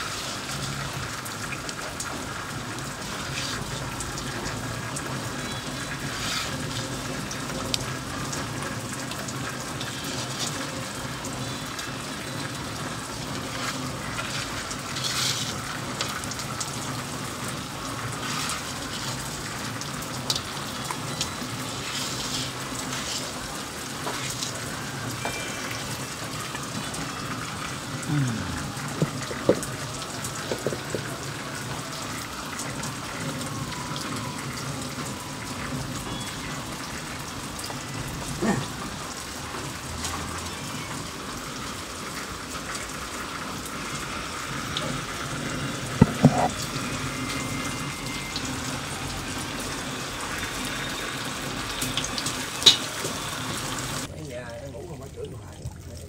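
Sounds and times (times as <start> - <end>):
rain falling: 0.0 - 56.0
drips and light clicks: 0.1 - 47.5, 50.3 - 56.0.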